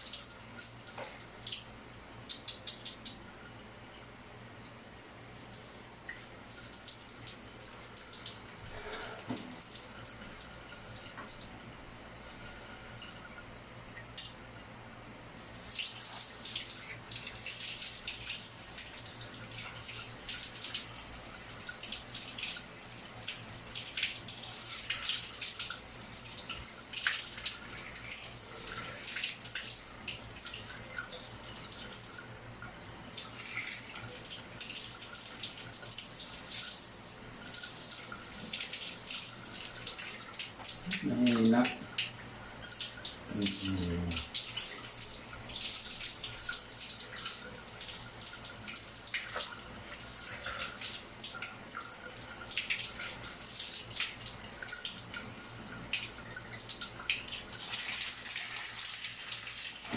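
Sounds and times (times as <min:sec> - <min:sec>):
water dripping: 0:00.0 - 0:11.6, 0:12.2 - 0:14.4, 0:15.6 - 0:59.9.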